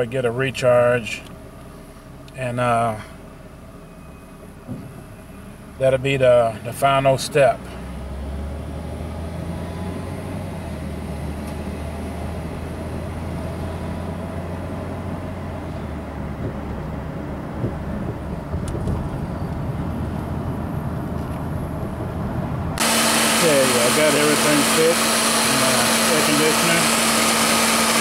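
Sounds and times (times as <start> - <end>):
car engine drone: 0.0 - 28.0.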